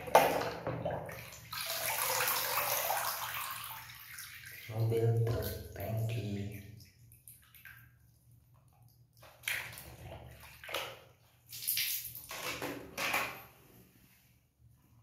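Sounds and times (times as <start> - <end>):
water sloshing in a basin: 0.0 - 13.4.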